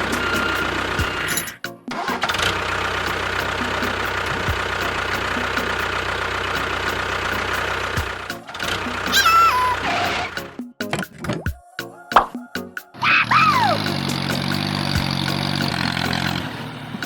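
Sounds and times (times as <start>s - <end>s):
engine running: 0.0s - 10.6s, 13.3s - 17.0s.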